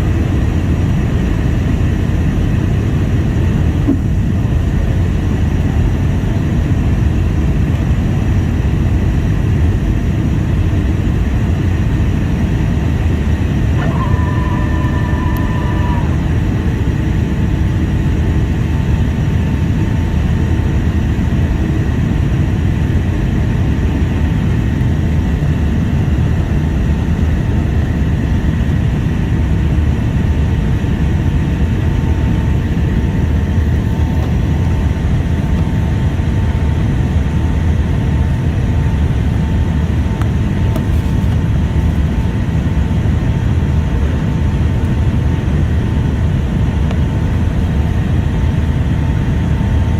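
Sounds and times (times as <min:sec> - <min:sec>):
airliner cabin rumble: 0:00.0 - 0:49.9
faint steady whine: 0:00.0 - 0:49.9.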